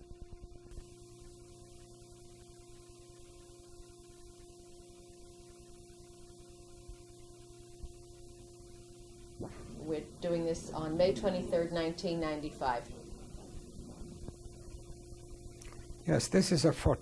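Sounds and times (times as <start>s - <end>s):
faint tape hiss: 0.0s - 17.0s
low electrical hum: 0.0s - 17.0s.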